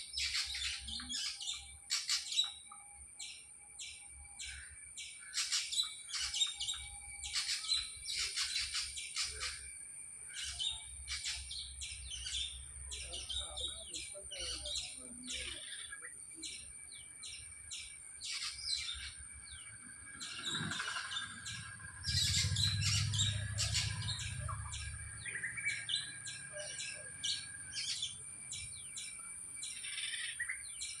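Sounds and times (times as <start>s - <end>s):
birds chirping: 0.0s - 31.0s
high-pitched whine: 0.0s - 31.0s.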